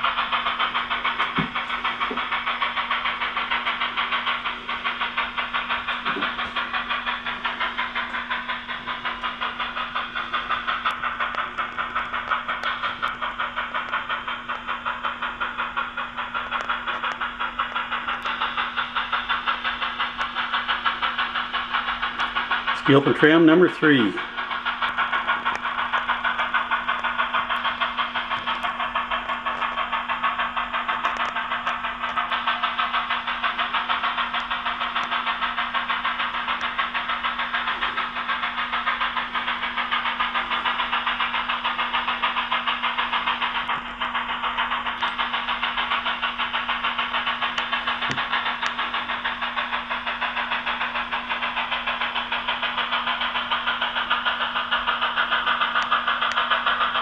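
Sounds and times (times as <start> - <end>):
model locomotive chatter: 0.0 - 57.0.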